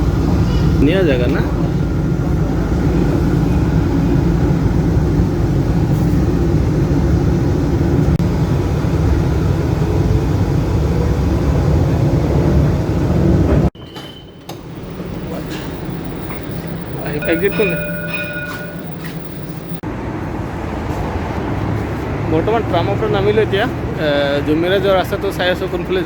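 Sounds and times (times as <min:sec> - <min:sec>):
tram low rumble: 0:00.0 - 0:22.3.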